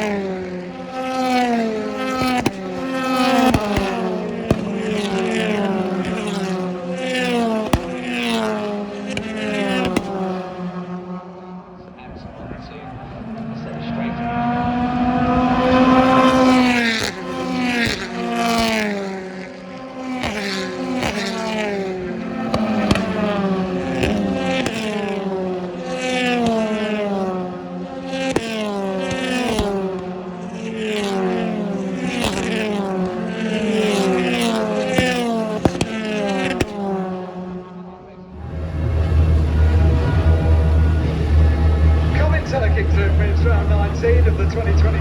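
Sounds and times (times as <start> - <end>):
racing cars passing at high revs: 0.0 - 45.0.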